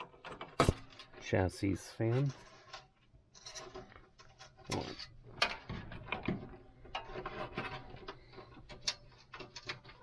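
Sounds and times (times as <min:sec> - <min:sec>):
cable connectors clicking and rattling: 0:00.0 - 0:10.0.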